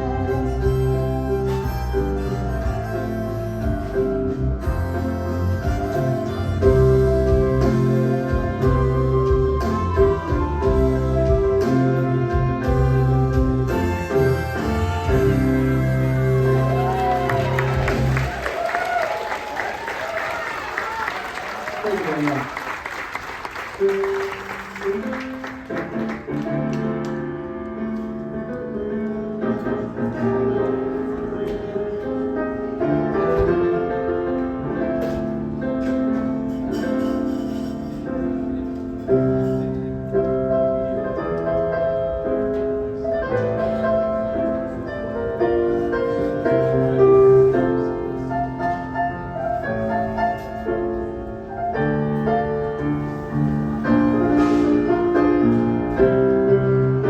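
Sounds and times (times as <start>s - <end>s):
piano playing chords and melody: 0.0s - 18.8s, 23.6s - 57.0s.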